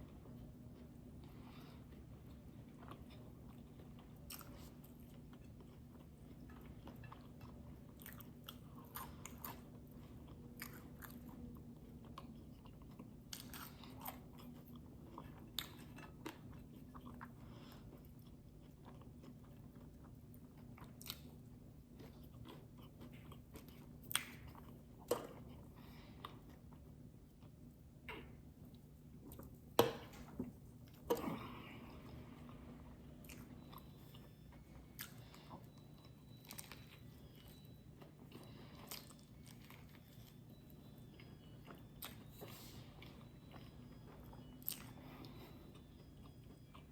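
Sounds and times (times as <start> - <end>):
chewing and biting food: 0.0 - 29.9, 30.6 - 46.9
steady low hum: 0.0 - 46.9.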